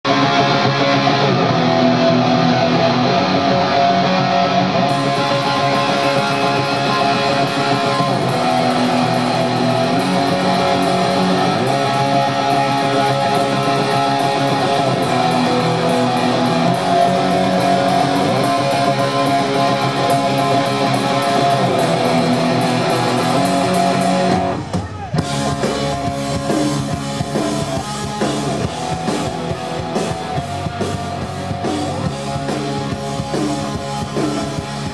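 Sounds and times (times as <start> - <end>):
electric guitar: 0.0 - 34.9
loud heavy rock band: 0.0 - 34.9
drum kit: 0.1 - 34.9.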